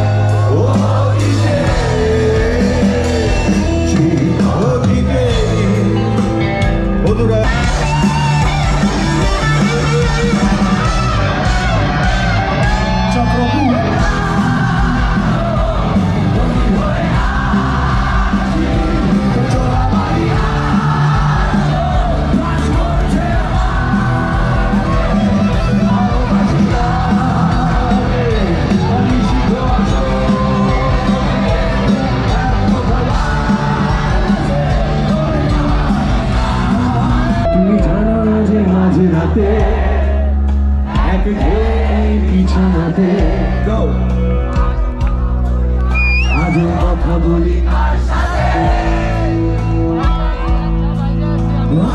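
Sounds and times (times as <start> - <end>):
crowd yelling and cheering: 0.0 - 51.9
live band with singer: 0.0 - 51.9.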